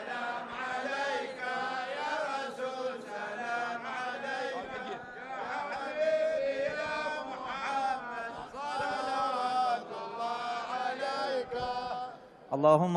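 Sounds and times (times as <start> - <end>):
men chanting together: 0.0 - 12.5.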